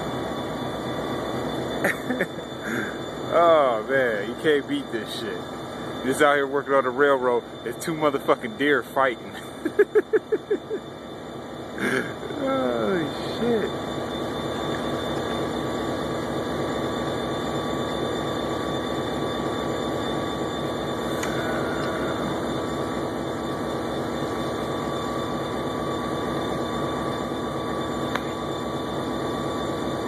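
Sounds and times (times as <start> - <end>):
rail vehicle engine drone: 0.0 - 30.0.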